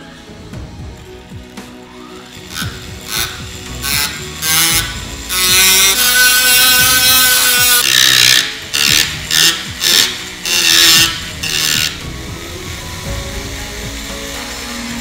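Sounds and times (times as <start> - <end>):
high whine: 0.0 - 15.0
rotary tool grinding steel: 0.0 - 15.0.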